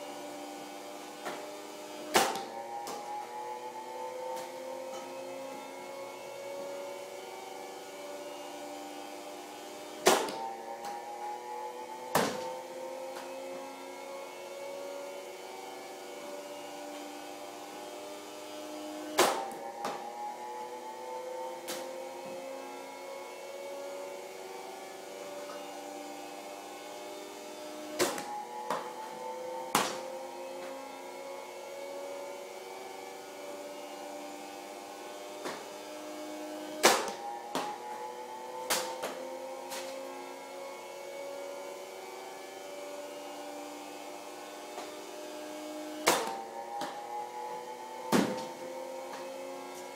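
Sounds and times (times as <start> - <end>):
electric motor hum: 0.0 - 49.9.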